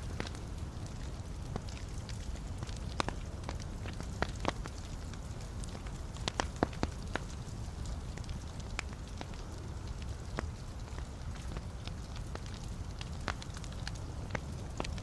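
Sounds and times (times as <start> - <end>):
logs crackling and popping: 0.0 - 15.0
wood fire burning: 0.0 - 15.0.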